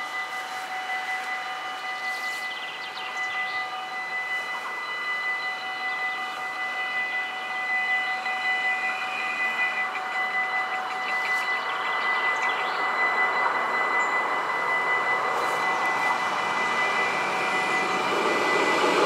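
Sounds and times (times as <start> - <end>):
approaching train rushing: 0.0 - 19.0
level crossing bells ringing: 0.0 - 19.0.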